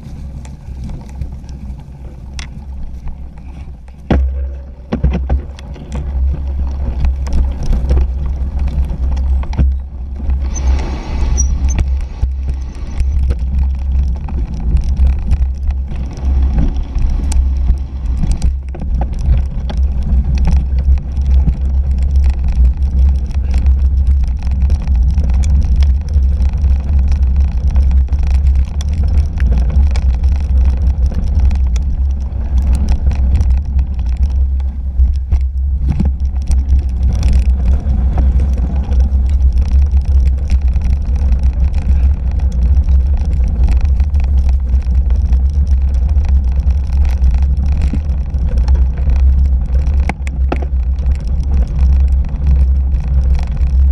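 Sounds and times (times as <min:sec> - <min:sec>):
bike rolling over dirt trail: 0:00.0 - 0:53.9
clicks and knocks of camera jolting: 0:02.4 - 0:53.9.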